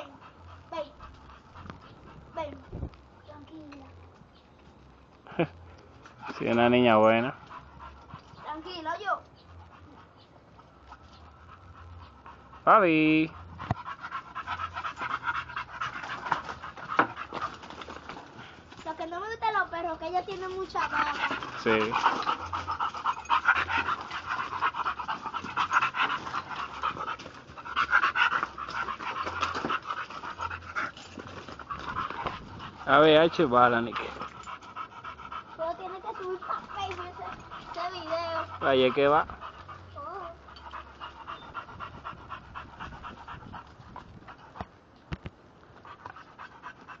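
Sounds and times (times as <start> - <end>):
dog panting: 0.0 - 47.0.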